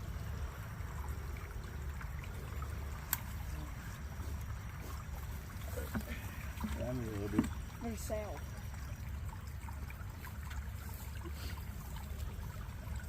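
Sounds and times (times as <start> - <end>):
faint trickling water: 0.0 - 13.0
low outdoor rumble: 0.0 - 13.0.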